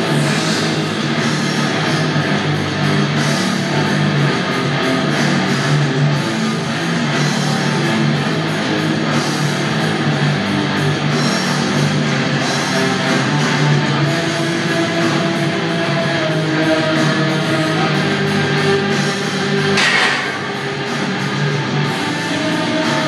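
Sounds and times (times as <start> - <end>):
heavy rock music: 0.0 - 23.0.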